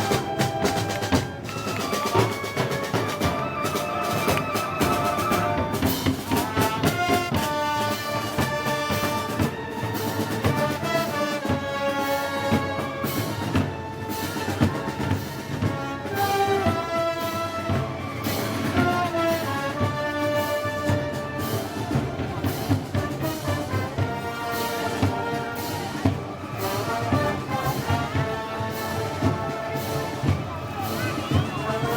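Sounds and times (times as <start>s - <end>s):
brass band playing: 0.0s - 31.9s
steady drum beats: 0.0s - 31.9s.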